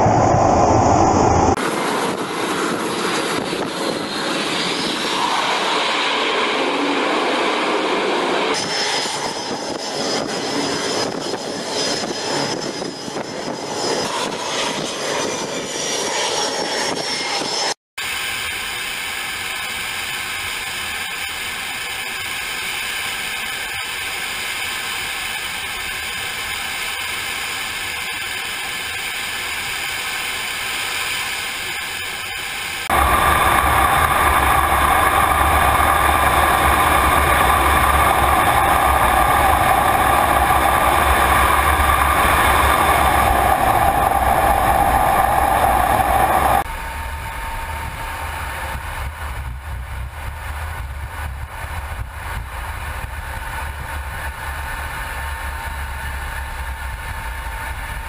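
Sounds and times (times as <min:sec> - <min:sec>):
jet engine and airflow noise: 0:00.0 - 0:58.0.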